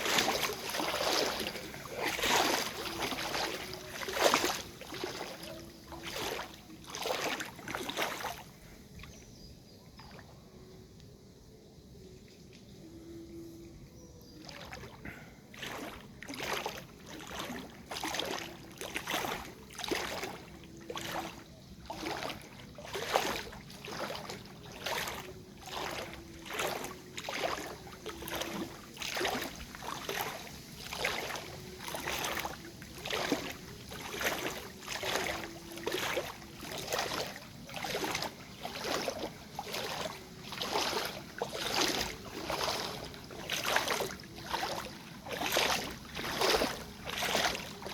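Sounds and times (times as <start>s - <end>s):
paddle splashing in water: 0.0s - 9.4s, 14.3s - 47.9s.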